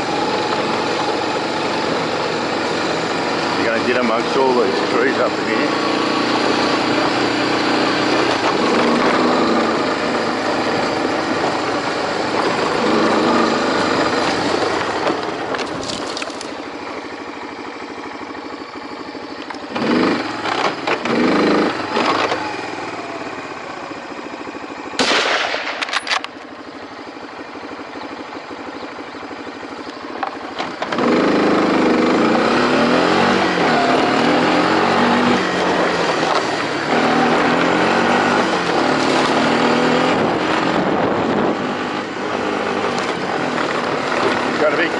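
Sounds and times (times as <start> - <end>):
motorbike engine running: 0.0 - 44.9.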